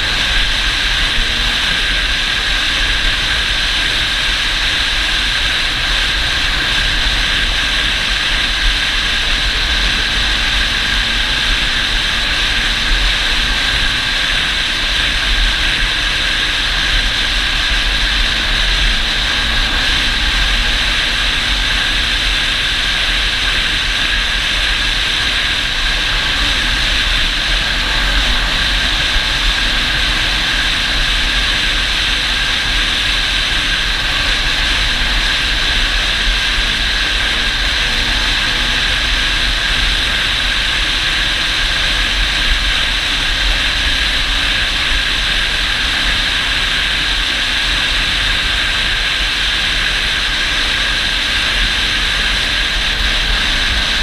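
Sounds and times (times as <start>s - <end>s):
atv engine running with whine: 0.0s - 54.0s
wind on microphone: 0.0s - 54.0s.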